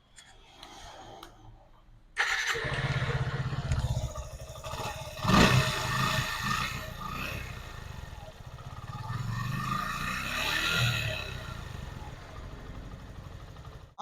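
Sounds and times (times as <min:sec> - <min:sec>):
motorcycle engine revving: 0:02.2 - 0:14.0
motorcycle engine starting and running: 0:02.2 - 0:14.0.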